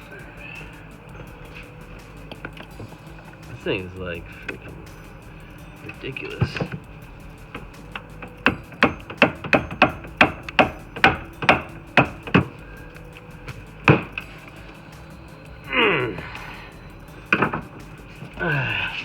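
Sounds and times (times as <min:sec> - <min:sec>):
hammer blows on metal part: 0:00.0 - 0:19.0.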